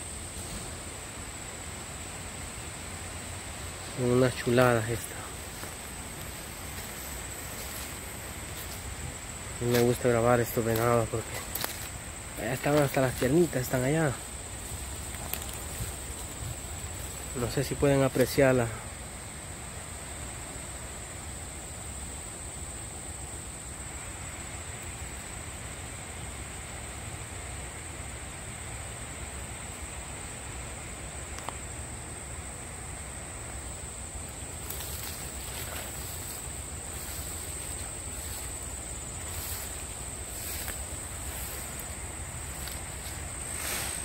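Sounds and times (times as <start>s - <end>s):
faint outdoor hiss: 0.0s - 44.0s
insects droning: 0.0s - 44.0s.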